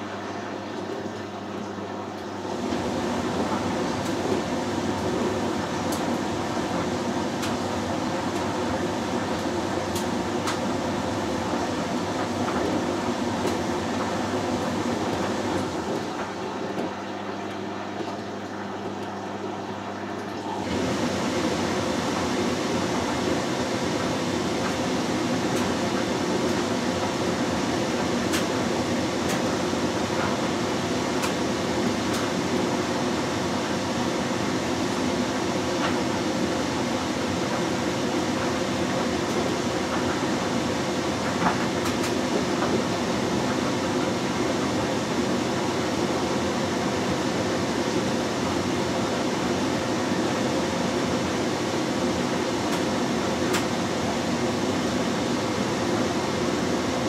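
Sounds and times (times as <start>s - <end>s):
washing machine sloshing laundry: 0.0s - 57.0s.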